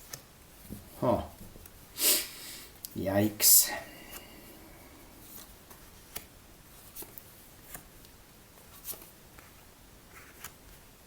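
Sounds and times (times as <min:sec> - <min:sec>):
room hiss: 0:00.1 - 0:10.1.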